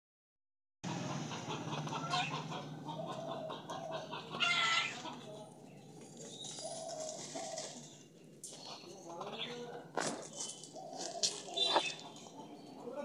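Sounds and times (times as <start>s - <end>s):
chickens clucking: 0.8s - 13.0s.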